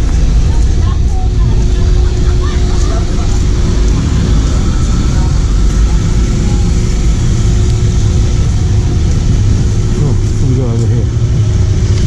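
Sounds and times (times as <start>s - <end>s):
low traffic rumble: 0.0s - 12.0s
vehicle engines running: 0.0s - 12.0s.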